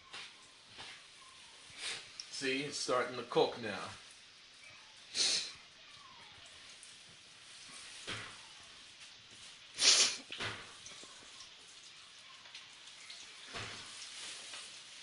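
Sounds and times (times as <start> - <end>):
chicken frying in hot grease: 0.0 - 15.0.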